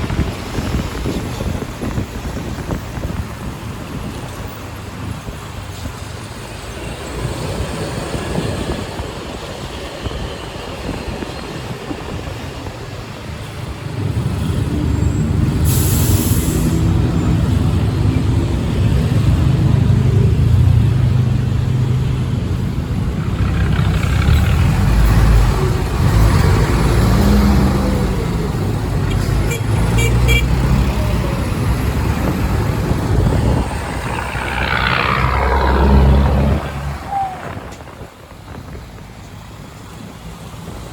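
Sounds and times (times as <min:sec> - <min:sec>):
motorbike engine and road noise: 0:00.0 - 0:40.9
other vehicles: 0:00.0 - 0:40.9.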